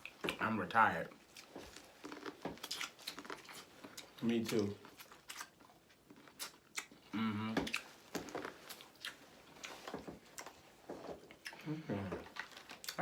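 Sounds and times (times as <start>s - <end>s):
chewing corn on the cob: 1.0s - 10.6s, 11.2s - 13.0s.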